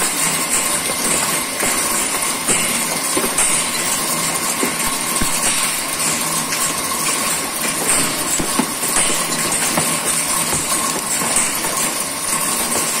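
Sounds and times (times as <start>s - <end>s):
metal chips clinking: 0.0s - 13.0s.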